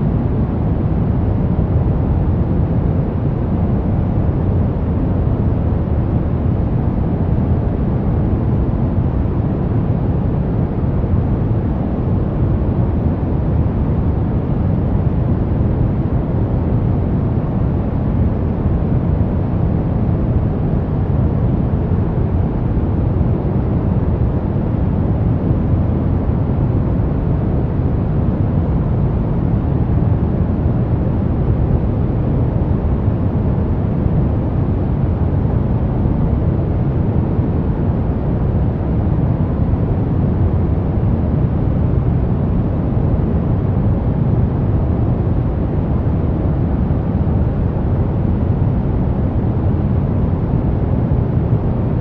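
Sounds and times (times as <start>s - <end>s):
brown noise: 0.0s - 52.0s.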